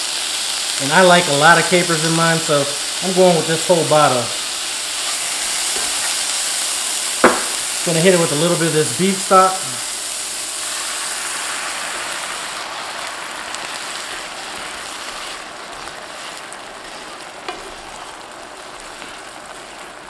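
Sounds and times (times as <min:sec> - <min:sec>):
stock sizzling in a skillet: 0:00.0 - 0:20.0.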